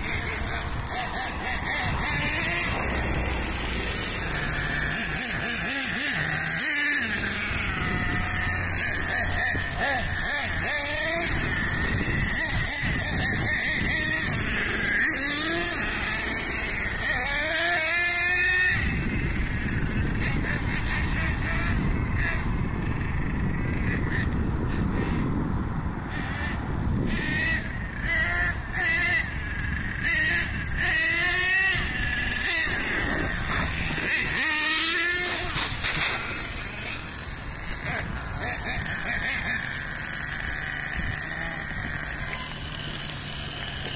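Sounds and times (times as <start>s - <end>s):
small nitro engine revving: 0.0s - 43.9s.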